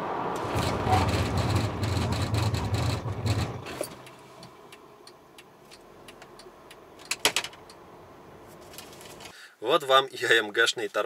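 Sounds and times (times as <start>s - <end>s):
road and drivetrain noise: 0.0s - 9.4s.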